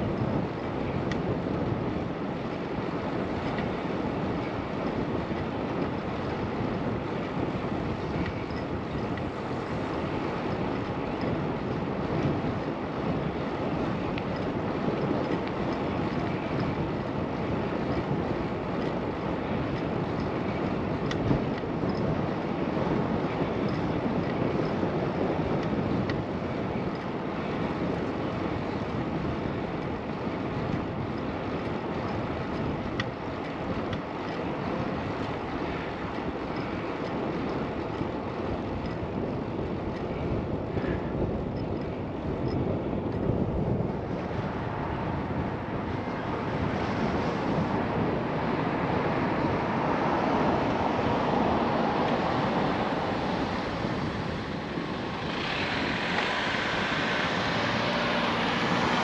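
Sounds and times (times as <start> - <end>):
bicycle road noise: 0.0 - 59.0
wind rushing over microphone: 0.0 - 59.0.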